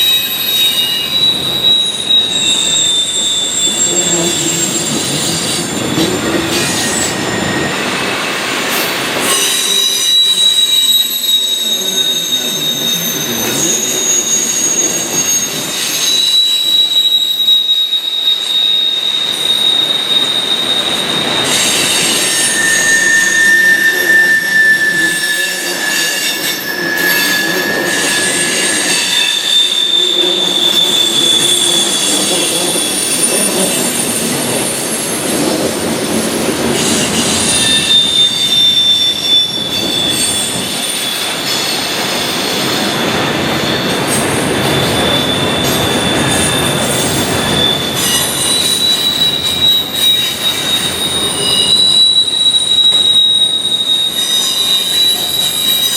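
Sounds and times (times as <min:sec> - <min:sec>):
train rolling noise: 0:00.0 - 0:55.9
train wheels squealing: 0:00.0 - 0:55.9.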